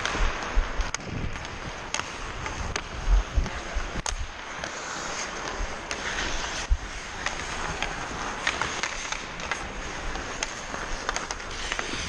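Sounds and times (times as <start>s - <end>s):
skates scraping ice: 0.0s - 12.0s
sticks clicking on puck: 0.0s - 12.0s.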